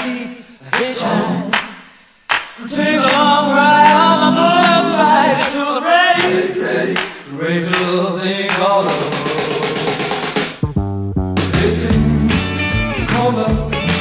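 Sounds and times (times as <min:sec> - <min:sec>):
voices singing a cappella: 0:00.0 - 0:10.4, 0:11.5 - 0:14.0.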